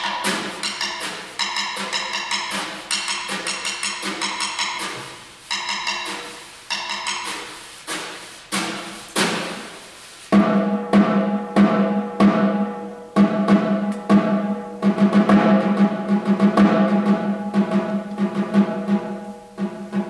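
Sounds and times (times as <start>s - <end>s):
snare drum played with sticks: 0.0s - 20.0s.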